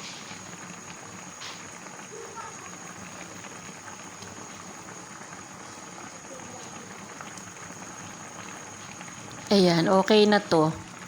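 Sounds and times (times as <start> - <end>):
soup boiling in a pot: 0.0 - 11.0.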